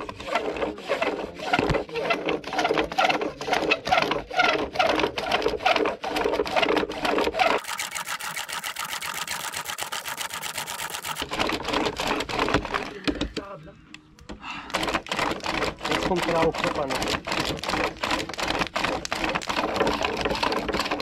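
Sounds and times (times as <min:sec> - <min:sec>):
spindle rubbing on wooden board: 0:00.0 - 0:13.1, 0:14.7 - 0:21.0.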